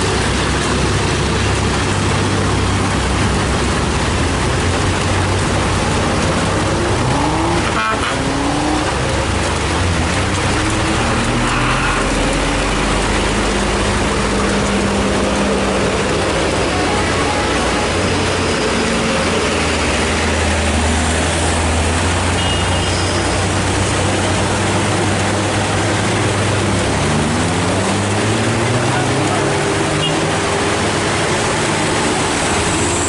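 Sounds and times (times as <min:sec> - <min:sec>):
diesel truck engine: 0:00.0 - 0:33.0
heavy rain hissing: 0:00.0 - 0:33.0.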